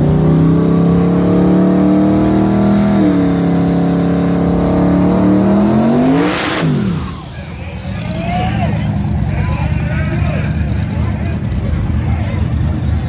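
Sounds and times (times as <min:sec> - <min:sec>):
drag car engine at full throttle: 0:00.0 - 0:13.0.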